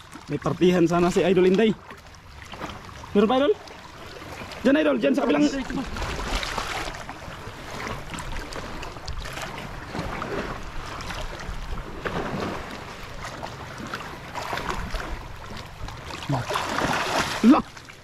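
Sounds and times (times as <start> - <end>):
seawater sloshing and splashing: 0.0 - 18.0.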